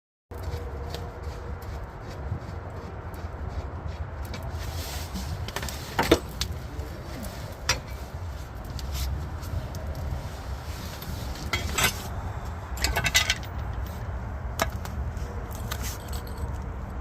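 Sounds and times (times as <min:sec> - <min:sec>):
steady low rumble: 0:00.3 - 0:17.0.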